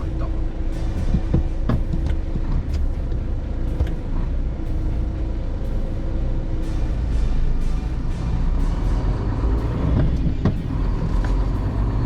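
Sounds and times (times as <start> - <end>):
truck diesel engine rumble: 0.0 - 12.0.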